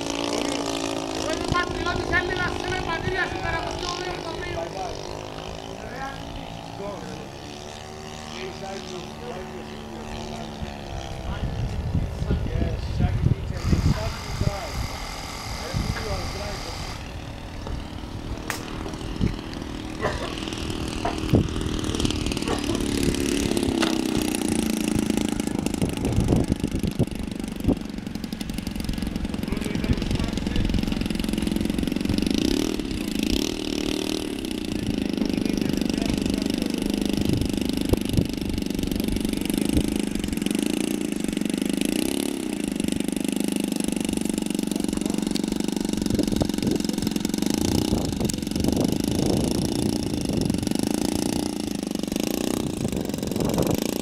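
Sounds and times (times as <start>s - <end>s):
model plane engine idling: 0.0s - 54.0s.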